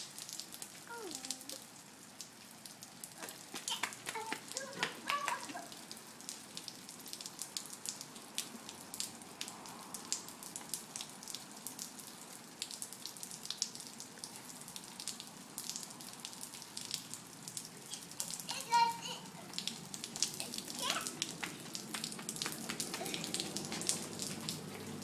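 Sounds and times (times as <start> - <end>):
rain hiss: 0.0 - 25.0
raindrops ticking close by: 0.0 - 25.0.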